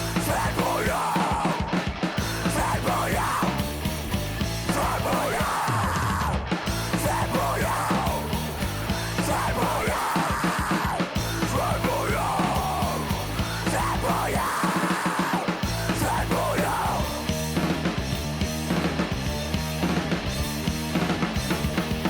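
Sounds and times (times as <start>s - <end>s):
rock music with sung vocal: 0.0s - 22.0s.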